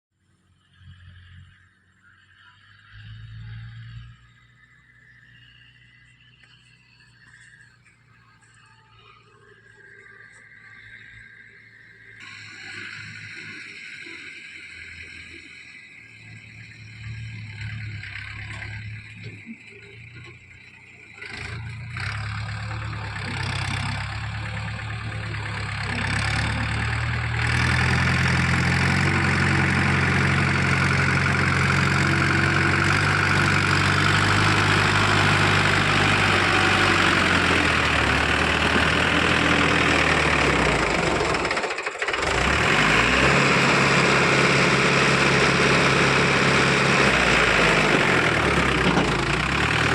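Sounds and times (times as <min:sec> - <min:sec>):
tractor diesel engine running: 0:00.4 - 0:49.9.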